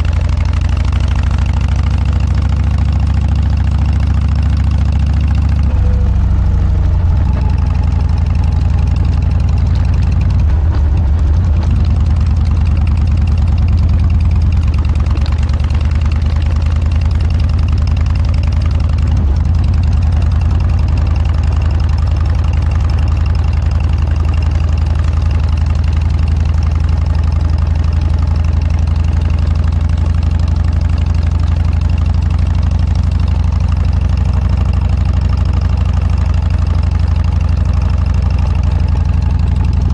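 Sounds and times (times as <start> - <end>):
motorcycle engine idling steadily: 0.0 - 39.9.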